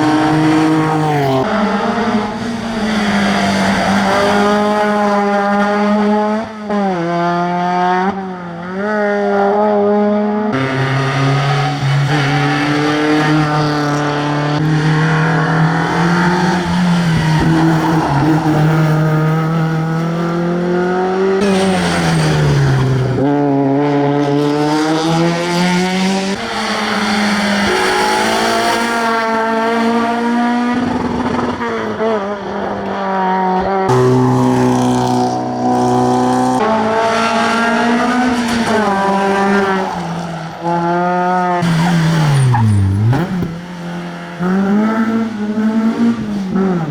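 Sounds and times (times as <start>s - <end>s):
cars braking and passing: 0.0s - 46.9s
rally car engines at hard throttle: 0.0s - 46.9s.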